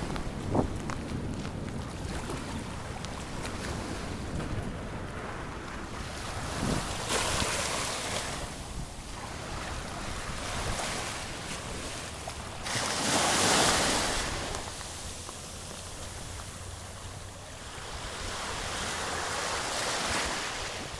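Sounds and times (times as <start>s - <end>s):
small waves washing over sand: 0.0s - 20.9s.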